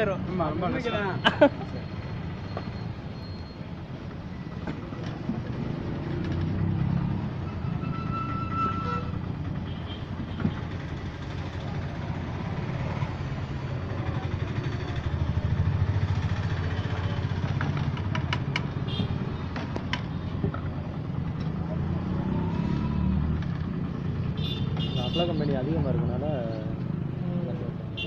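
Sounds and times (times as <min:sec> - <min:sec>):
low rumble of vehicle engines: 0:00.0 - 0:28.0.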